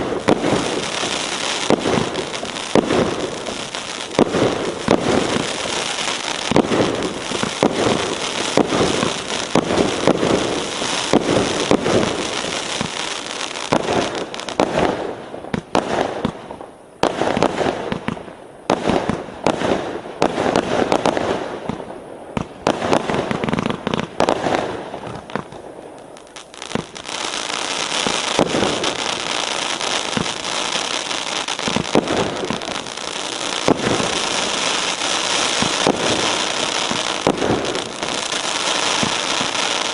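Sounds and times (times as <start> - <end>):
firework crackling: 0.0 - 39.9
fireworks launching and bursting: 0.0 - 39.9.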